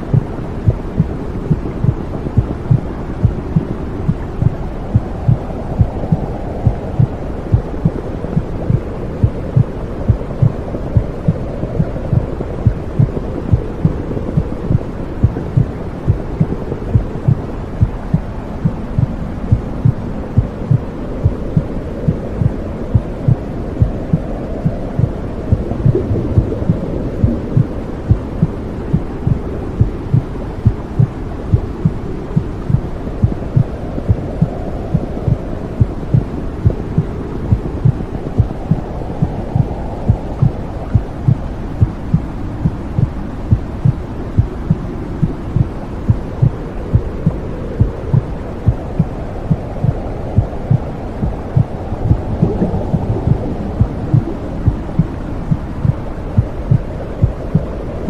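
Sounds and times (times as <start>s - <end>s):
heartbeat thumping: 0.0s - 57.7s
low rumbling noise: 0.0s - 58.0s.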